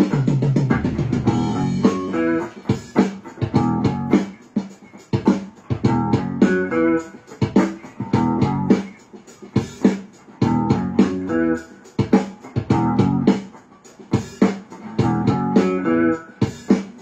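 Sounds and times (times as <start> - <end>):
electric guitar riff: 0.0 - 17.0.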